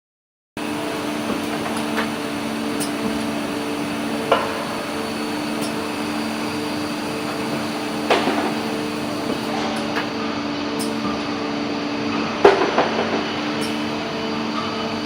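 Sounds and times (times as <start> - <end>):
machine hum: 0.6 - 15.0.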